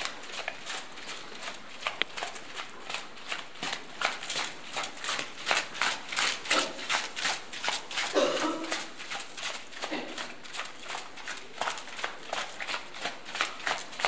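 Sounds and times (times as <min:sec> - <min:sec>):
hoofbeats on wet sand: 0:00.0 - 0:14.0.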